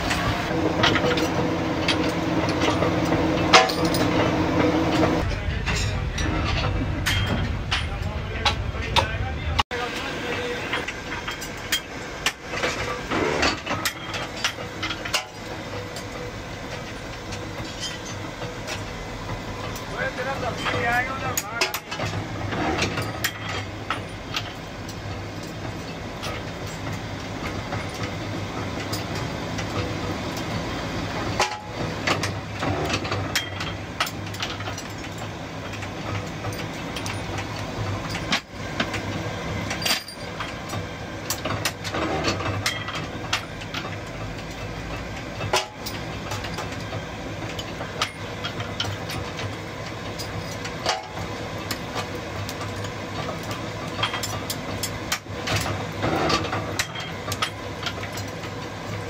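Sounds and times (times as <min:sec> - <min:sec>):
sharp metallic clicks and knocks: 0:00.0 - 0:09.3, 0:10.3 - 0:30.6, 0:31.2 - 0:59.0
machinery humming: 0:00.0 - 0:59.0.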